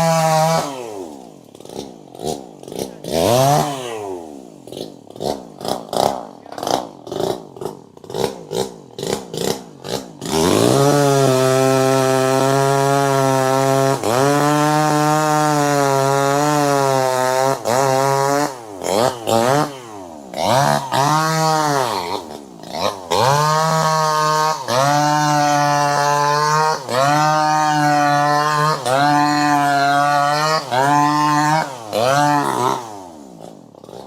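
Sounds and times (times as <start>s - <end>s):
chainsaw engine revving: 0.0s - 34.0s.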